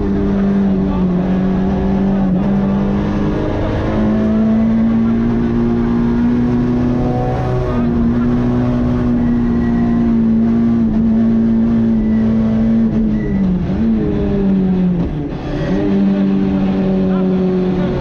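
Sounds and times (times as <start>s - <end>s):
rally car engine at high revs: 0.0s - 18.0s.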